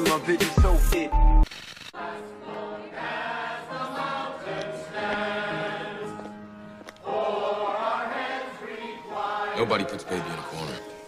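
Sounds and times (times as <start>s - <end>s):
choir singing with music: 0.0s - 1.4s, 2.0s - 11.0s.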